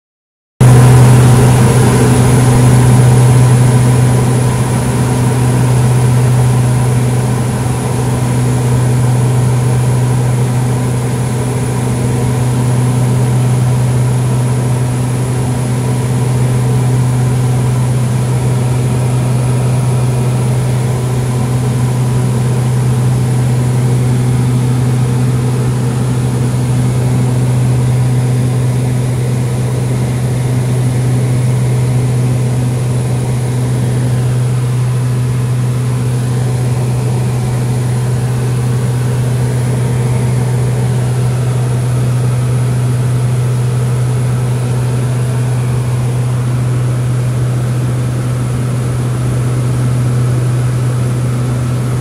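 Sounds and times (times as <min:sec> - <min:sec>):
propeller airplane engine drone: 0:00.6 - 0:52.0.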